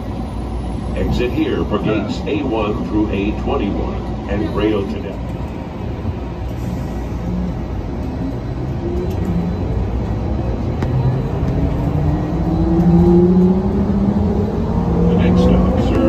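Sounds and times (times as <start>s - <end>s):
train drive whine rising: 0.0s - 16.0s.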